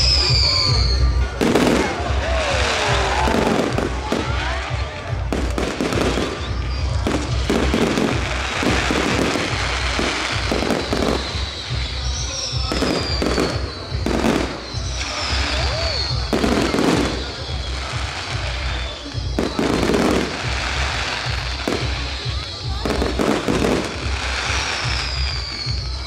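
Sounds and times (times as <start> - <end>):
firework whistle: 0.0 - 26.0
fireworks bangs and crackling: 0.0 - 26.0
music: 0.0 - 26.0.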